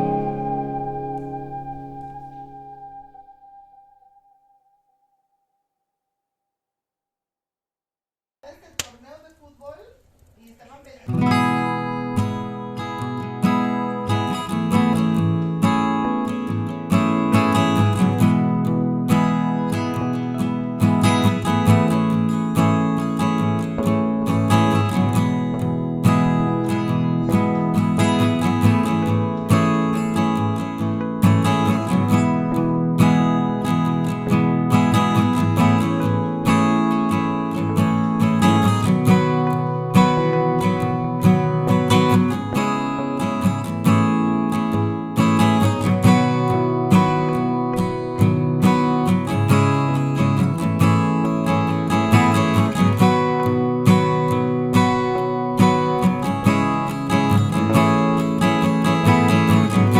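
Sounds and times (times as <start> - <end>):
acoustic guitar music: 0.0 - 4.9, 11.1 - 59.9.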